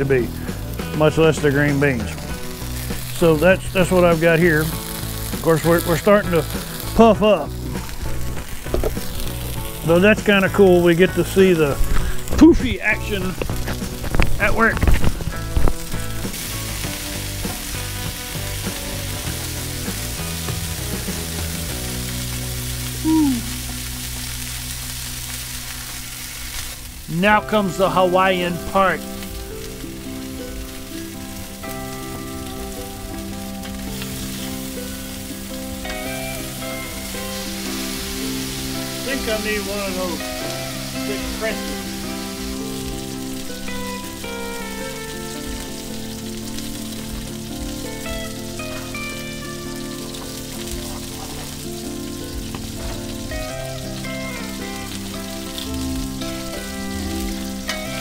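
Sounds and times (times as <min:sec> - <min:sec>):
background music of held chords: 0:00.0 - 0:58.0
burger patties sizzling on griddle: 0:00.0 - 0:58.0.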